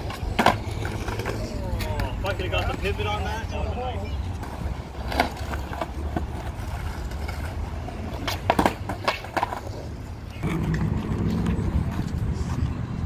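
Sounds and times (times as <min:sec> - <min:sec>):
skateboard clacking on ground: 0:00.0 - 0:13.0
skateboard wheels rolling on concrete: 0:00.0 - 0:13.0.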